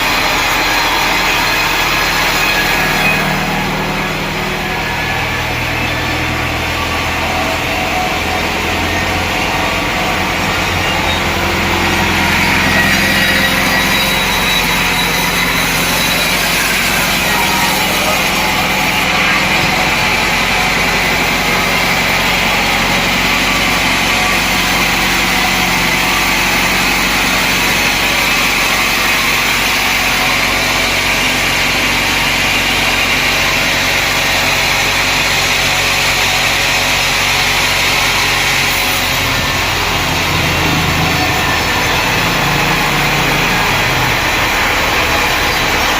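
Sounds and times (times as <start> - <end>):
sawmill machinery drone: 0.0 - 45.9.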